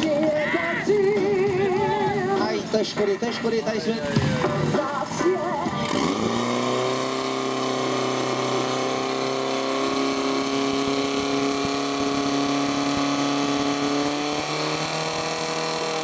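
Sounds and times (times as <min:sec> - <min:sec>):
pump engine at high revs: 0:00.0 - 0:02.5, 0:04.1 - 0:16.0.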